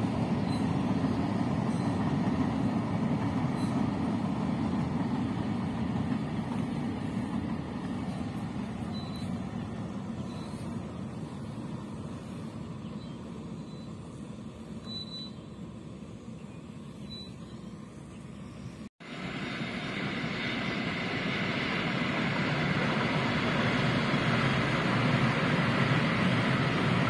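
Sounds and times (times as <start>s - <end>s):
electric train running on viaduct: 0.0s - 27.0s.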